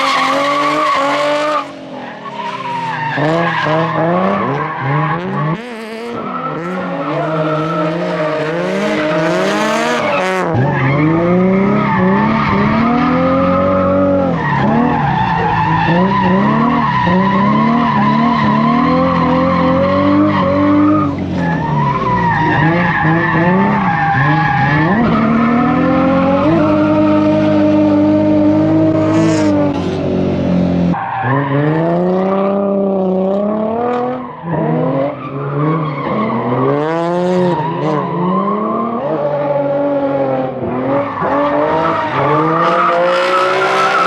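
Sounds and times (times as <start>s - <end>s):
car engine revving: 0.0s - 44.0s
tires squealing: 0.0s - 44.0s.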